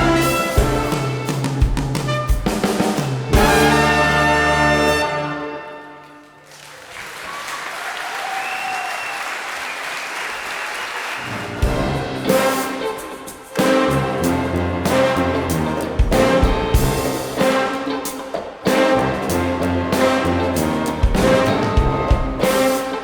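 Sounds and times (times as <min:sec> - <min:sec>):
orchestra with brass: 0:00.0 - 0:07.2, 0:11.0 - 0:23.0.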